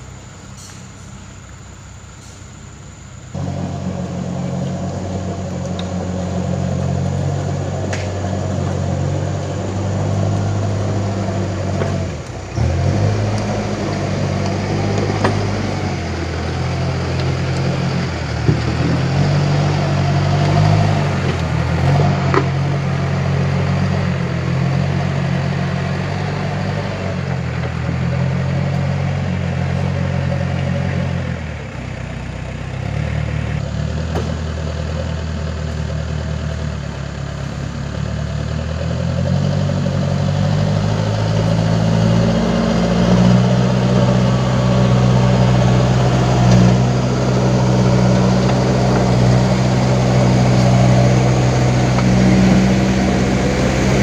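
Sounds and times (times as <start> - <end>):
diesel engine working under load: 0.0 - 54.0.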